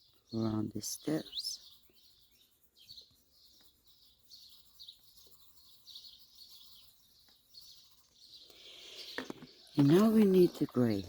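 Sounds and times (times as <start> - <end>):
faint songbird chirping: 0.0 - 11.0.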